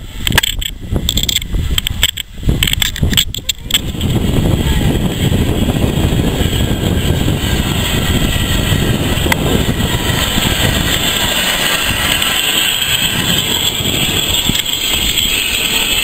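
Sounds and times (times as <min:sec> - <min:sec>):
heavy low rumble: 0:00.0 - 0:16.0
locomotive steam rushing: 0:00.0 - 0:16.0.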